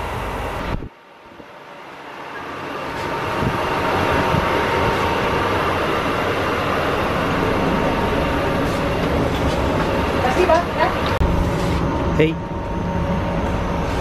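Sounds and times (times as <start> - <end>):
moving passenger train: 0.0 - 14.0.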